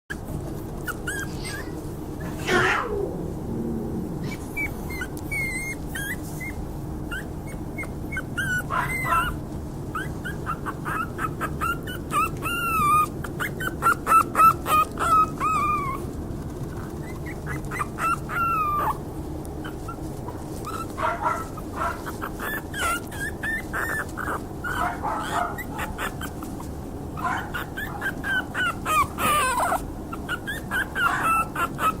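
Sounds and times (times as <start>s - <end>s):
puppies whimpering and yipping: 0.1s - 3.2s, 4.2s - 32.0s.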